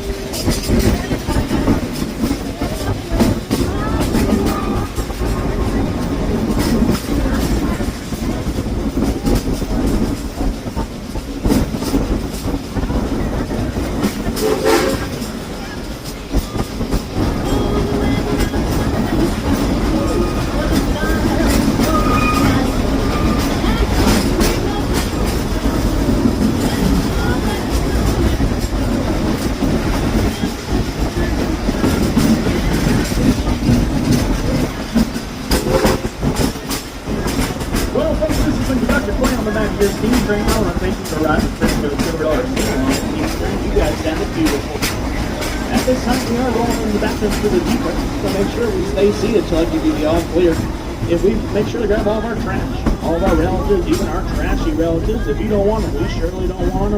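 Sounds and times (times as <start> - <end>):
train car rumbling on track: 0.0 - 56.9
wheels clacking over rail joints: 0.0 - 56.9.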